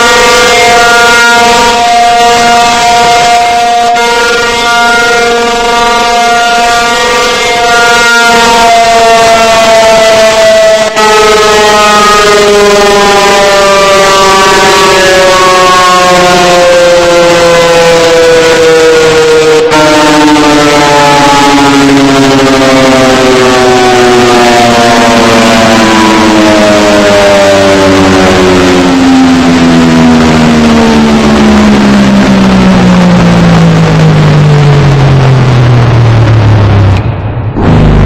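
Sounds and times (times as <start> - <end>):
warning siren winding down: 0.0 - 38.0.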